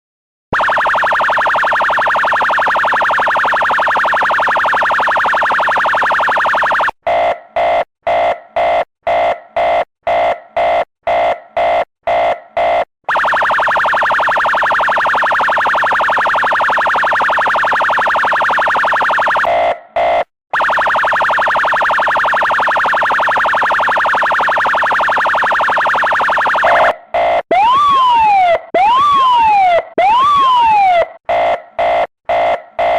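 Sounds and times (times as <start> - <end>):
electronic police siren: 0.6 - 32.9.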